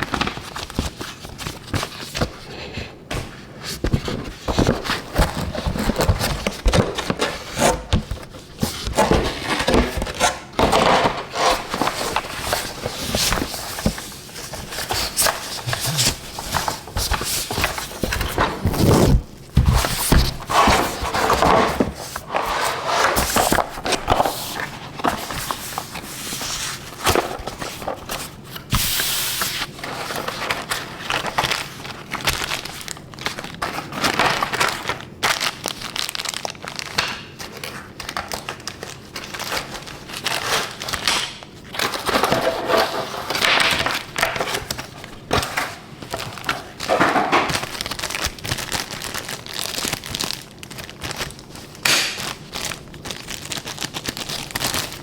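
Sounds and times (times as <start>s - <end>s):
plastic and paper crinkling: 0.0s - 55.0s.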